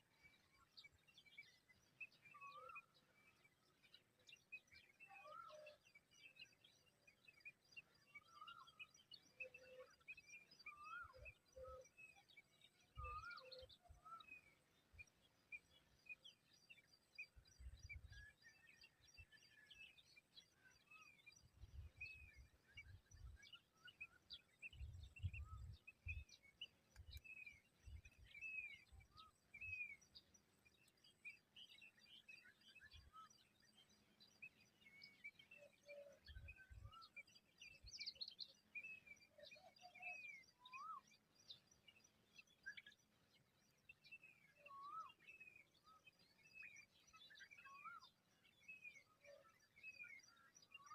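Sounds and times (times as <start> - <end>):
faint birdsong chirps: 0.0 - 50.9.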